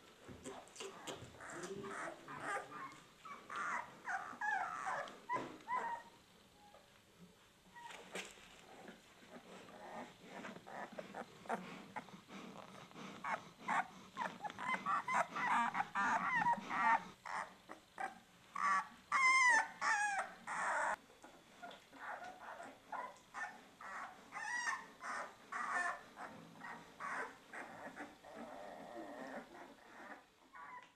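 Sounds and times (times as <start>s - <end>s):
puppies squeaking and whimpering: 0.8s - 6.8s, 9.3s - 12.0s, 13.2s - 30.9s.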